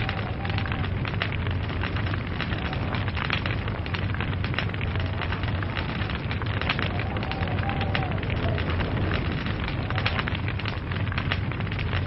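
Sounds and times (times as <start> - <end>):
log fire crackling: 0.0 - 12.0.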